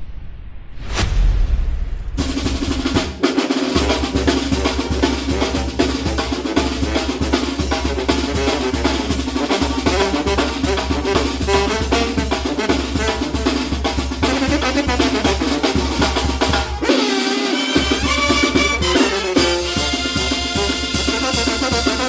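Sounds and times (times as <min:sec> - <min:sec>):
drums and cymbals beating: 0:02.2 - 0:22.0
brass band playing: 0:02.6 - 0:22.0.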